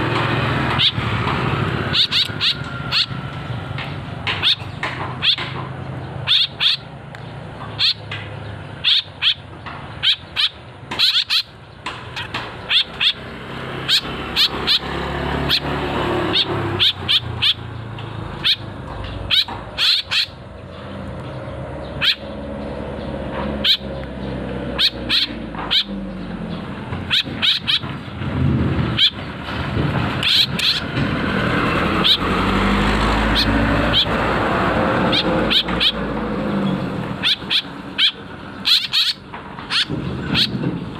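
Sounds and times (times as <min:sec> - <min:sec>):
low engine hum: 0:00.0 - 0:40.9
young birds sharp calls: 0:00.0 - 0:40.9.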